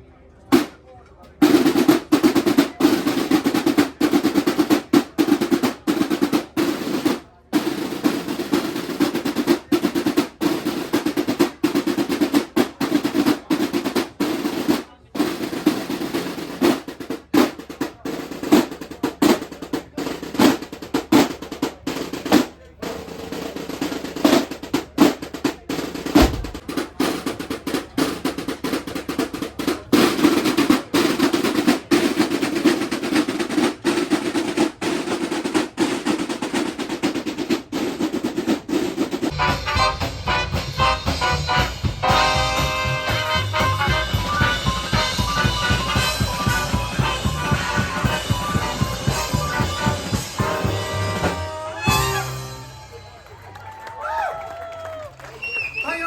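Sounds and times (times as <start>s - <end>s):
snare drum rolls: 0.5s - 56.0s.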